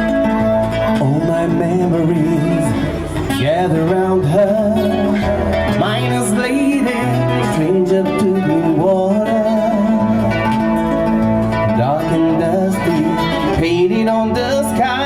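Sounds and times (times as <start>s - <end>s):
acoustic guitar: 0.0s - 15.0s
gliding melody line: 0.0s - 15.0s.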